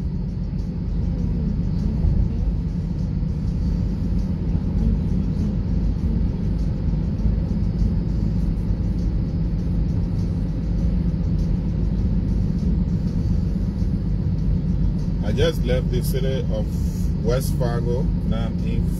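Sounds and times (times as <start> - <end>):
car road and engine rumble: 0.0 - 18.9.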